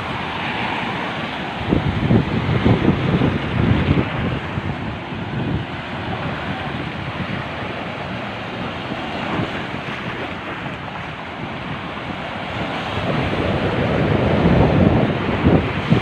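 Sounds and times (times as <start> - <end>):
waves breaking on rocks: 0.0 - 16.0
wind buffeting microphone: 0.0 - 16.0.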